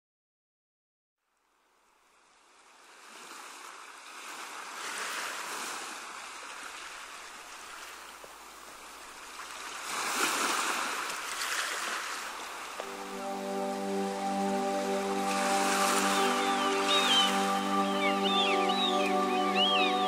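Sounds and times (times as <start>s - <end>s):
ocean surf washing onto beach: 2.6s - 20.0s.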